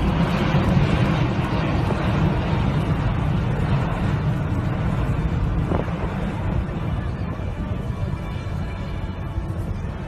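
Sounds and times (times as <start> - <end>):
jet airliner climbing: 0.0 - 10.0.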